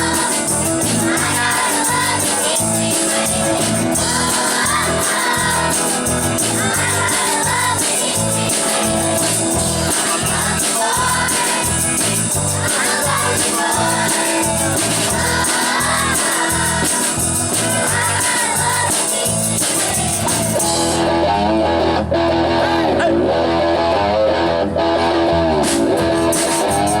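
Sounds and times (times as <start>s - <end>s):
rock backing track with driving beat: 0.0s - 21.6s, 22.2s - 27.0s
children's choir singing: 0.0s - 22.0s.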